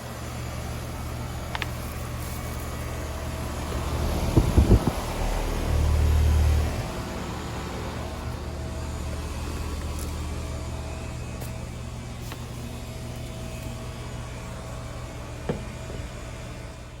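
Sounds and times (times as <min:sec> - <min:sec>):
compressor hum: 0:00.0 - 0:17.0
fan noise: 0:00.0 - 0:17.0.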